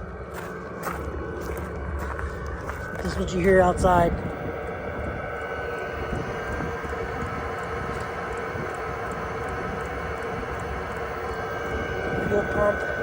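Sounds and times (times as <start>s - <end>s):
heater combustion and fan drone: 0.0s - 13.0s.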